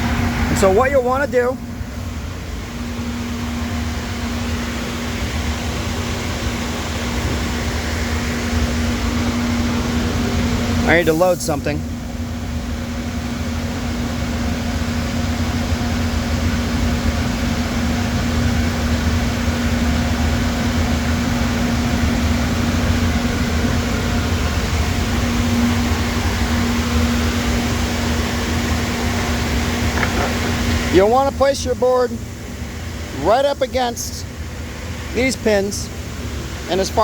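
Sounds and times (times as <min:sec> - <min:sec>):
shop machinery droning: 0:00.0 - 0:37.0.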